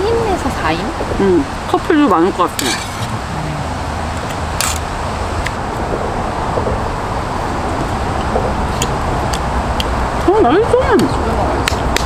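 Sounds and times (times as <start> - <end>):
low rumble and hiss: 0.0 - 11.6.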